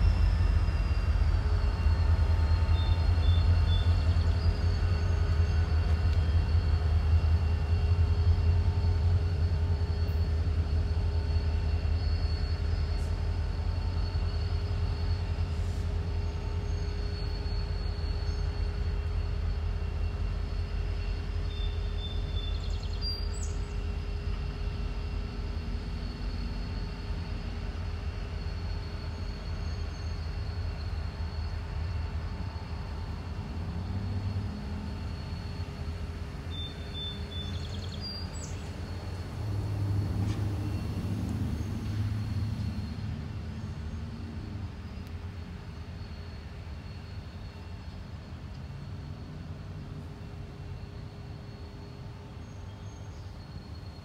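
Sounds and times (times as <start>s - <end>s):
freight locomotive engine rumble: 0.0s - 54.0s.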